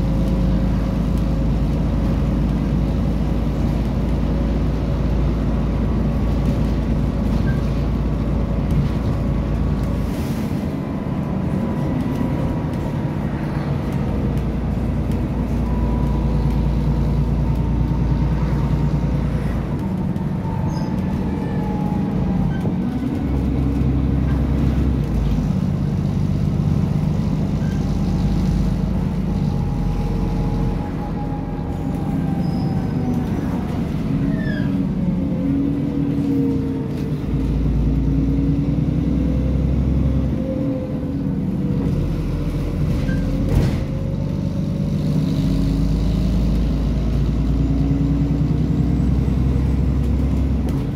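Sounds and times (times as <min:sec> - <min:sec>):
bus diesel engine drone: 0:00.0 - 0:50.9
road noise: 0:00.0 - 0:50.9.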